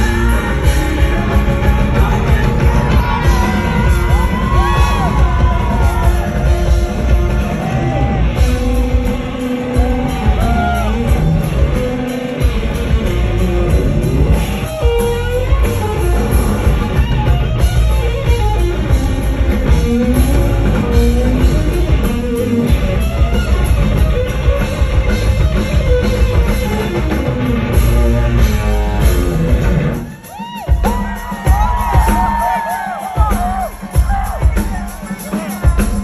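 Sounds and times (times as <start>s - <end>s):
electric guitar: 0.0s - 33.2s
live rock band playing: 0.0s - 36.0s.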